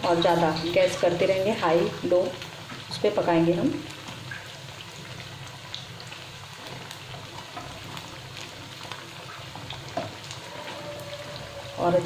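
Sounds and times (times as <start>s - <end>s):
oil crackling and popping: 0.0s - 11.6s
food deep-frying in oil: 0.0s - 12.0s.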